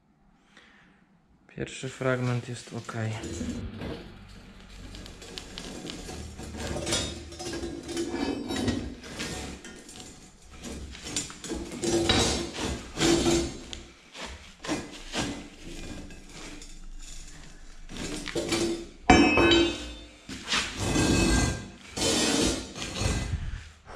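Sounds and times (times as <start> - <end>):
metal strip clanking and scraping: 2.6 - 23.4.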